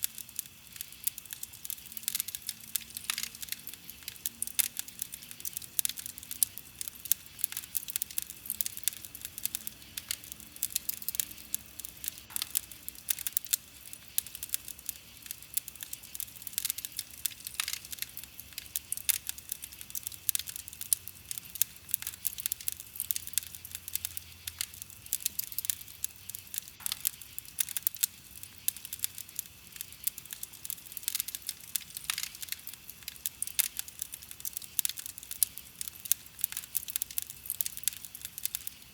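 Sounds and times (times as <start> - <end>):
wood fire crackling: 0.0 - 38.9
loud fire pops: 0.1 - 38.9.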